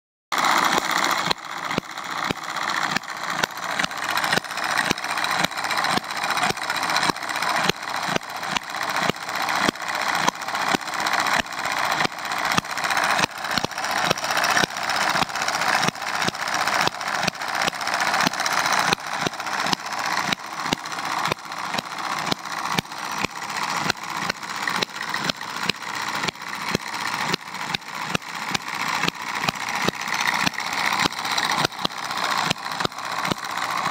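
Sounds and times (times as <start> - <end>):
engine parts clattering: 0.4 - 33.9
model engine firing pops: 0.4 - 33.9.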